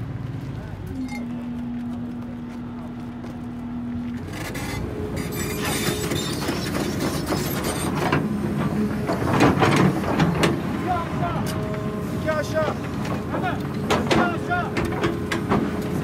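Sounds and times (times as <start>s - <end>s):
heavy construction machine humming: 0.0s - 16.0s.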